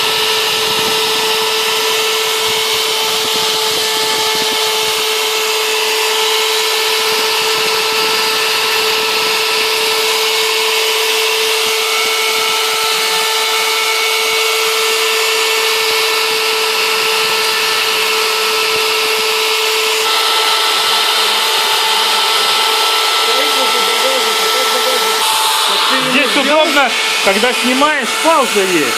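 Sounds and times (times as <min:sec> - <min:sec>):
router spindle whine milling foam: 0:00.0 - 0:28.9.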